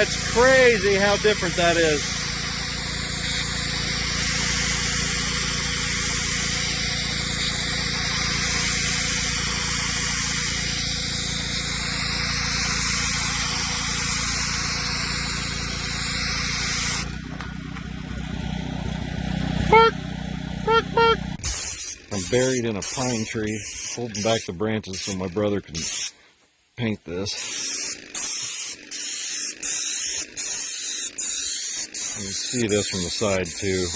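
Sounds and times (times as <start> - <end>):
pressure washer spray hissing: 0.0 - 17.2, 20.7 - 26.1, 27.4 - 33.9
pressure washer engine running: 0.0 - 25.3, 27.4 - 33.9.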